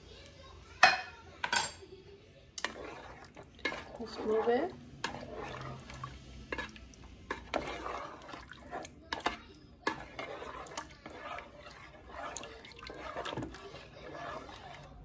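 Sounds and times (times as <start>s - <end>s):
sauce sloshing while stirred: 2.5s - 15.0s
utensil clinking against pot: 2.6s - 15.0s.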